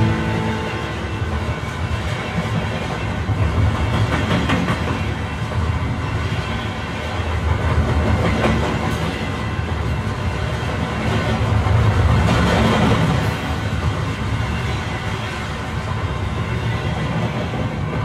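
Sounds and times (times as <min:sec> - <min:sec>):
train rumbling and clattering: 0:00.0 - 0:18.0.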